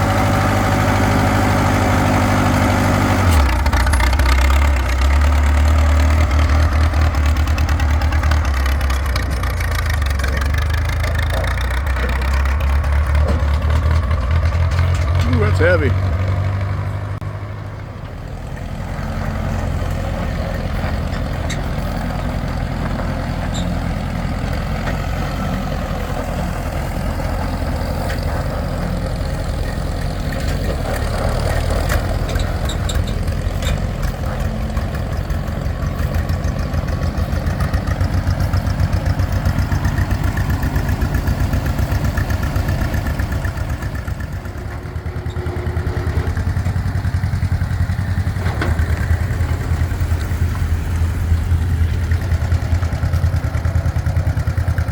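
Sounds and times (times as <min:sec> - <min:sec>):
heavy engine running: 0:00.0 - 0:54.9.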